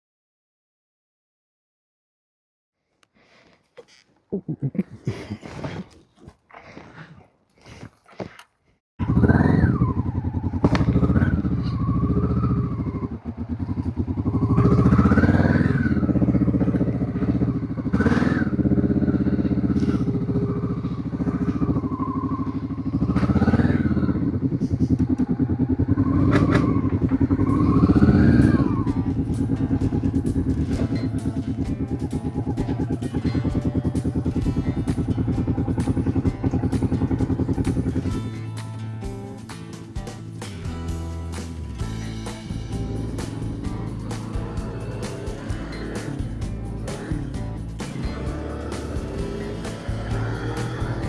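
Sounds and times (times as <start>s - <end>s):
motorcycle engine revving: 9.0s - 39.4s, 40.0s - 51.0s.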